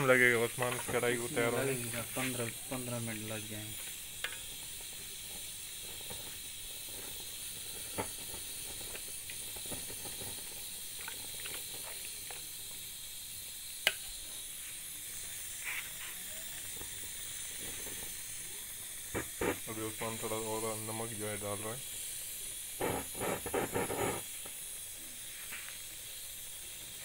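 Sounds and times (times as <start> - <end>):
pot simmering hiss: 0.0 - 27.0.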